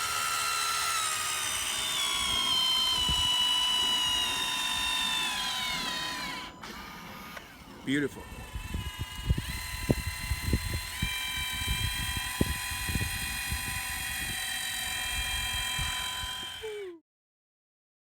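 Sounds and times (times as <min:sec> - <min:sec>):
high-pitched motor whine: 0:00.0 - 0:16.9.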